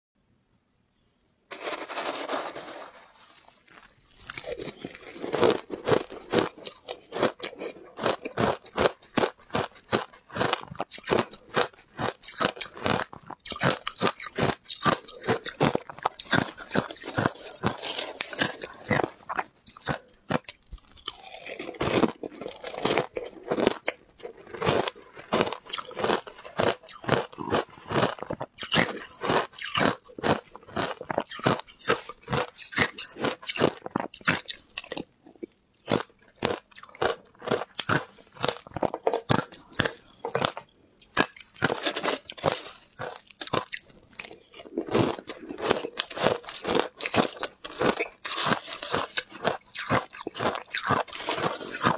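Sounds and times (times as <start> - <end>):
chewing crunchy ice: 1.5 - 51.9.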